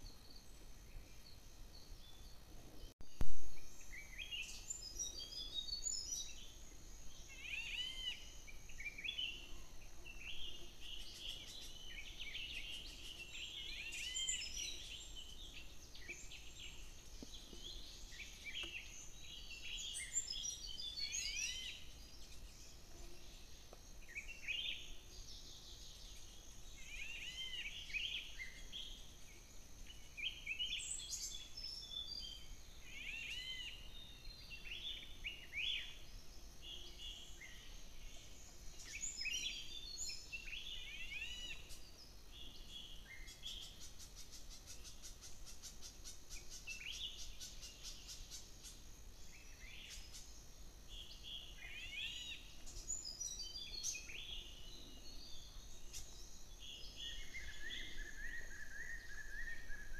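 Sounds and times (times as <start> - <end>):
birds chirping and twittering: 0.0 - 59.9
faint steady high hiss: 0.0 - 59.9.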